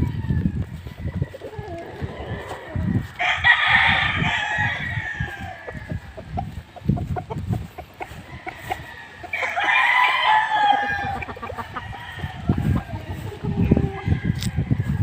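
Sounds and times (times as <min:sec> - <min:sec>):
rooster crowing: 0:00.0 - 0:06.1, 0:08.1 - 0:15.0.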